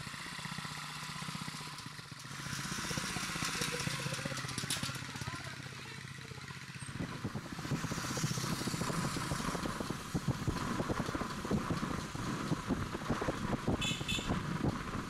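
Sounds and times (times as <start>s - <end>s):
small motorcycles running: 0.0s - 15.0s.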